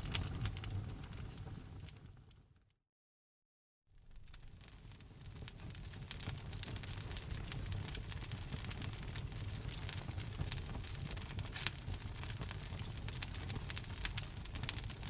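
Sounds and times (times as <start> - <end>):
wood fire crackling: 0.0 - 2.4, 4.0 - 15.0.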